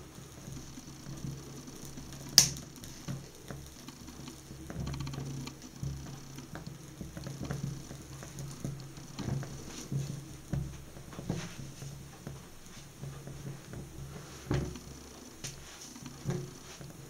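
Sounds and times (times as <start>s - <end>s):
small flames crackling: 0.0s - 17.0s.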